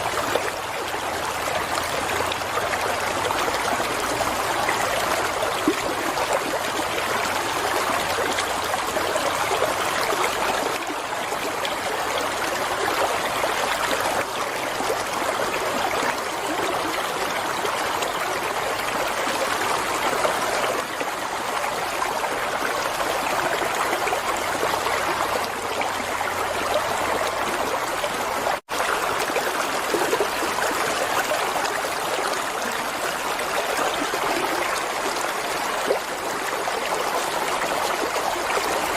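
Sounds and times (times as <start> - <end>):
water flowing and trickling: 0.0 - 38.9.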